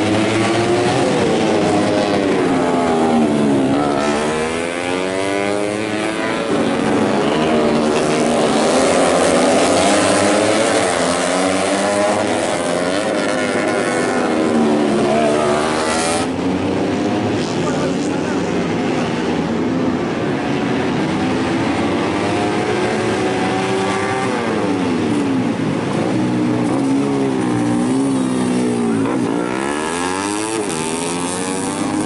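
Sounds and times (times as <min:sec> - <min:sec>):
racing motorcycles revving: 0:00.0 - 0:32.0.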